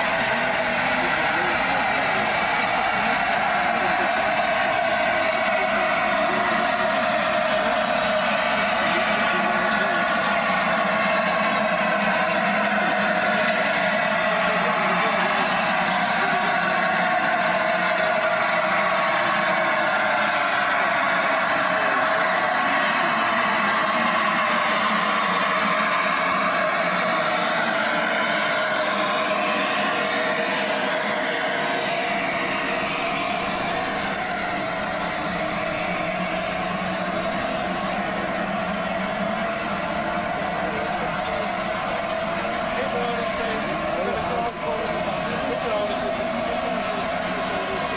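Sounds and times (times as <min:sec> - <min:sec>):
steam locomotive hissing: 0:00.0 - 0:47.9.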